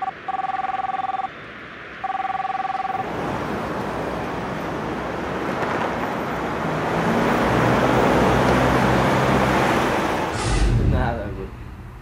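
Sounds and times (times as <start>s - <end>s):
bus engine hum: 0.0s - 12.0s
road traffic: 0.0s - 12.0s.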